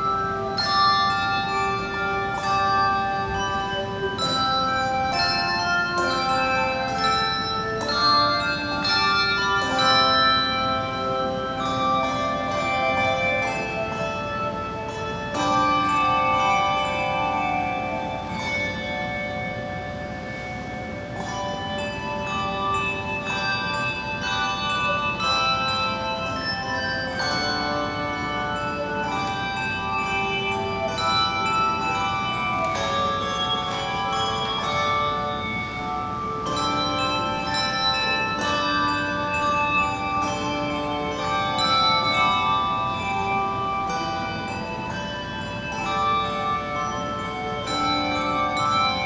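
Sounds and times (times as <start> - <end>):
handbell choir ringing: 0.0 - 49.0.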